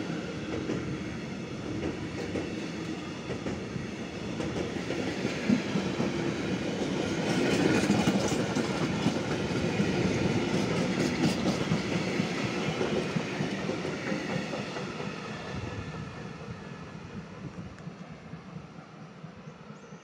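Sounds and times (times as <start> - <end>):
train wheels clattering on rails: 0.0 - 16.6.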